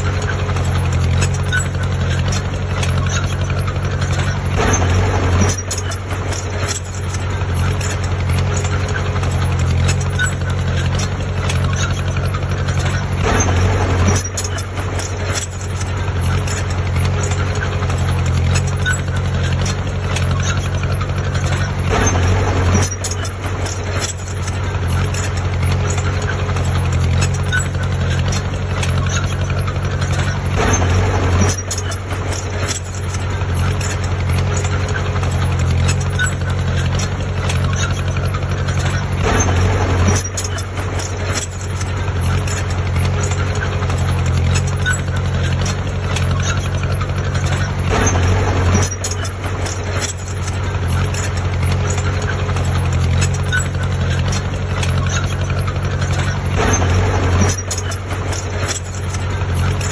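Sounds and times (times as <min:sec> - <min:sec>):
diesel engine drone: 0:00.0 - 0:59.9
engine rattling surges: 0:00.0 - 0:59.9.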